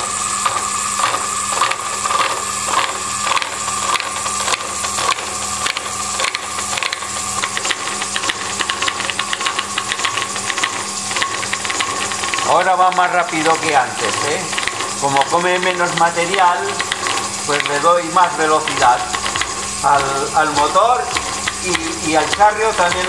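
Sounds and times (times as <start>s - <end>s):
milling cutter clicking: 0.0s - 23.0s
motor whine: 0.0s - 23.0s.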